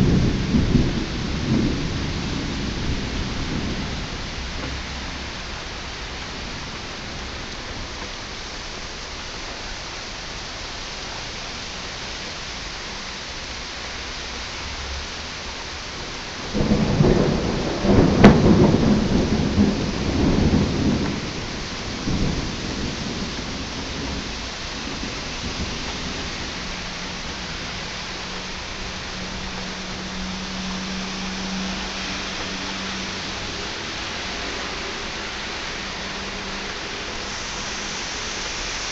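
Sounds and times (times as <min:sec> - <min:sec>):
thunder crack and rumble: 0:00.0 - 0:08.8, 0:16.0 - 0:38.8
heavy rain pouring: 0:00.0 - 0:38.9.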